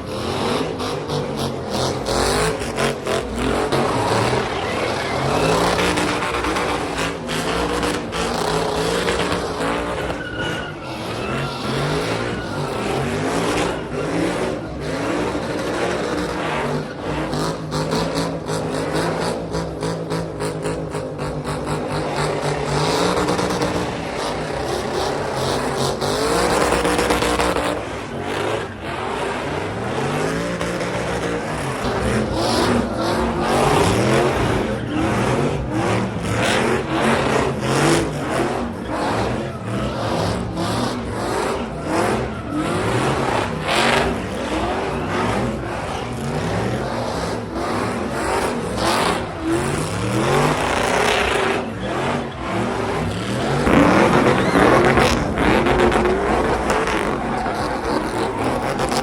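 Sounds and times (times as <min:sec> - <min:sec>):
engines revving hard: 0:00.0 - 0:59.0.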